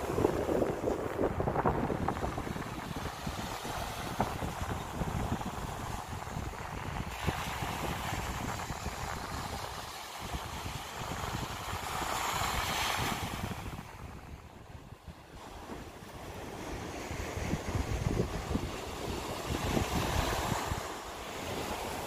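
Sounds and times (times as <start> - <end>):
small waves washing up a beach: 0.0 - 22.0
wind rumbling on microphone: 0.0 - 22.0.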